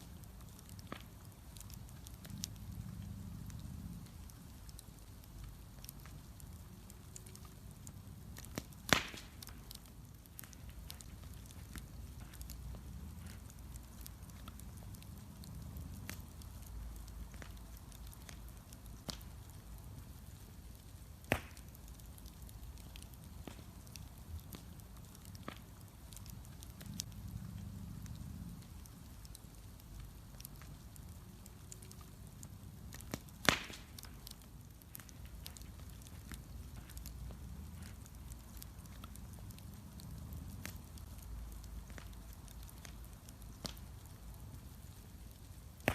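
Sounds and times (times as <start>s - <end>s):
bonfire crackling and popping: 0.0s - 45.9s
low fire rumble: 0.0s - 45.9s.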